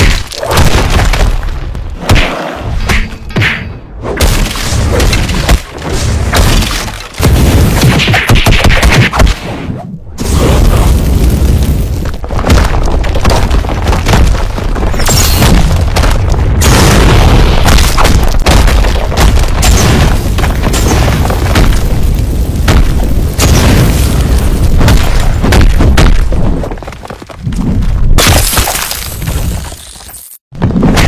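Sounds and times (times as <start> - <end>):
cartoon explosions and crashes: 0.0 - 26.8.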